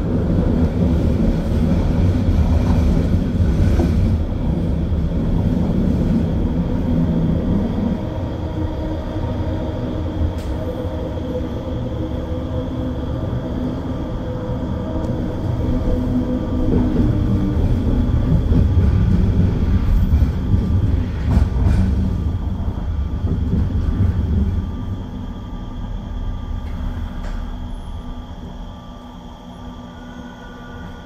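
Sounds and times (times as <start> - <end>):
train car rumbling: 0.0 - 31.0.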